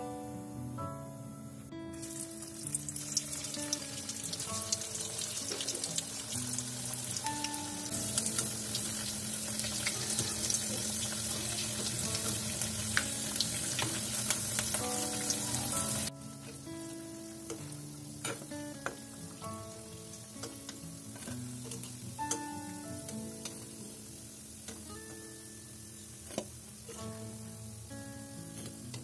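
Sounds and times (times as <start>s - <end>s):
food sizzling in hot oil: 1.9s - 29.0s.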